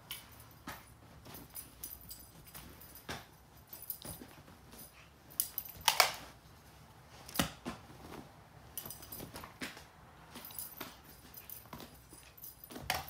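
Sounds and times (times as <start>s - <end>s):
bedding rustling: 0.0s - 13.0s.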